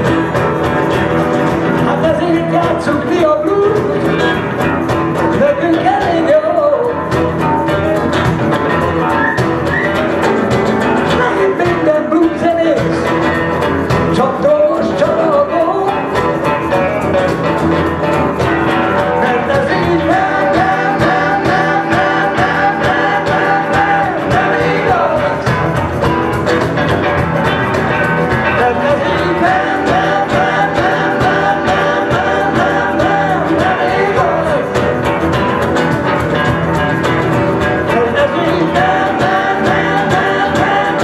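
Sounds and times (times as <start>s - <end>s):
blues guitars strumming: 0.0s - 41.0s.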